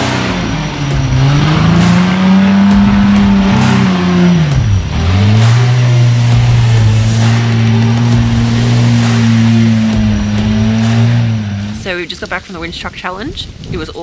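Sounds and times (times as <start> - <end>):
truck engine revving: 0.0 - 12.3.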